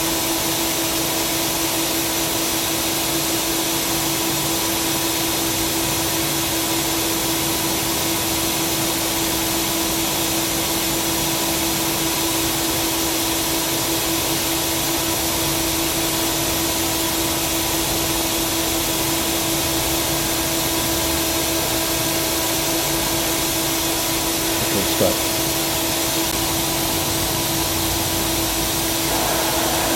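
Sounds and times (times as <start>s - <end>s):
lathe running with steady hiss: 0.0s - 29.9s.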